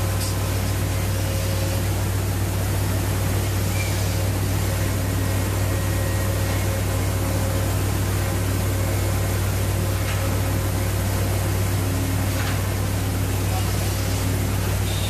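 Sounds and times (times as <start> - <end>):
deep machinery drone: 0.0 - 15.0
ventilation hiss: 0.0 - 15.0.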